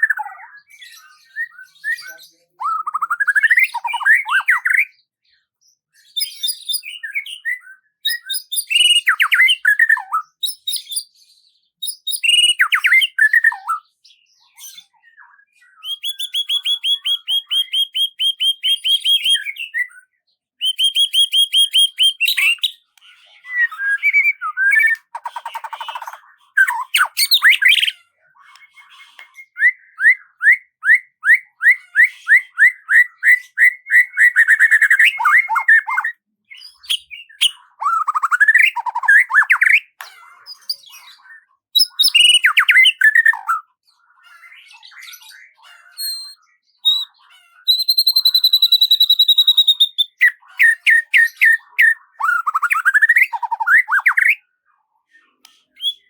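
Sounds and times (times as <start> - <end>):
songbird whistling and warbling: 0.0 - 5.2, 6.0 - 56.0.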